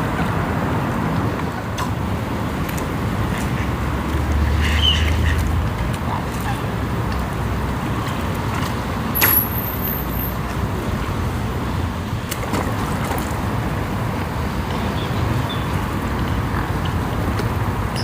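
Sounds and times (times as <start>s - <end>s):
distant road traffic rumble: 0.0s - 18.0s.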